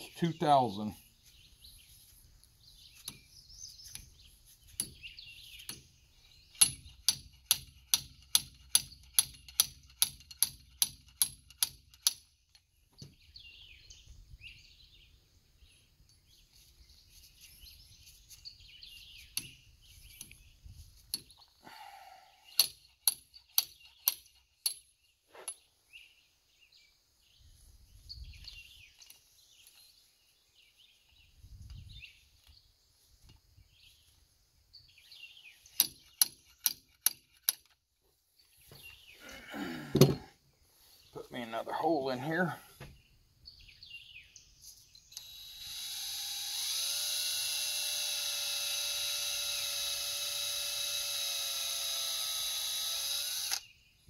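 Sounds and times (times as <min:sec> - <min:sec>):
birds chirping: 0:00.0 - 0:10.9, 0:12.0 - 0:37.4, 0:38.0 - 0:45.3.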